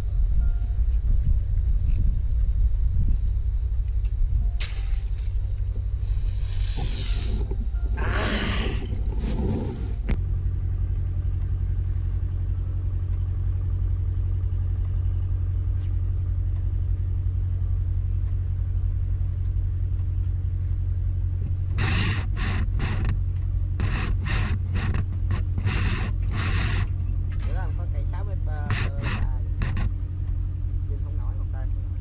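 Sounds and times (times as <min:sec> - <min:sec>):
low motor drone: 0:00.0 - 0:32.0.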